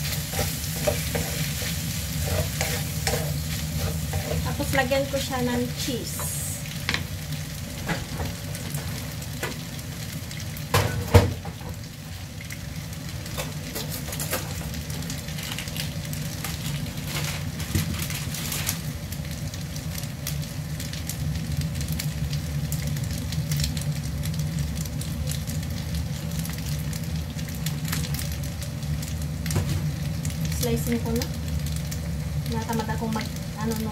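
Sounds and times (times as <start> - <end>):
food sizzling in a frying pan: 0.0 - 33.9.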